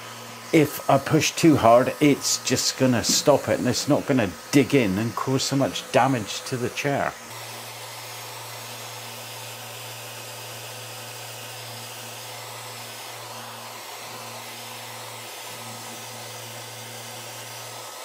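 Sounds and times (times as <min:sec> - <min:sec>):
orbital sander on wood: 0:00.0 - 0:18.0.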